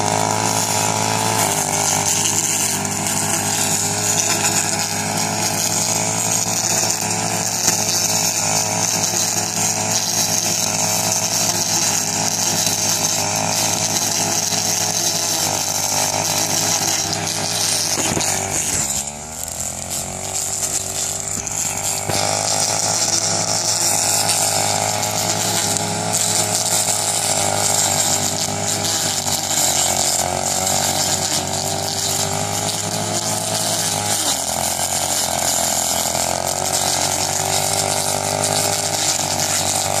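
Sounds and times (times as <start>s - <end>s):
brush cutter engine running: 0.0s - 40.0s.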